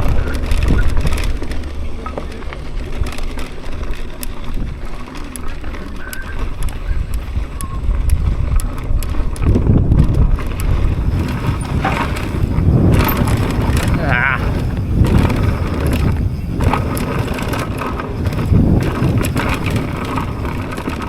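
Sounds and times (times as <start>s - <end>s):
mountain bike rattling: 0.0s - 21.0s
wind buffeting microphone: 0.0s - 21.0s.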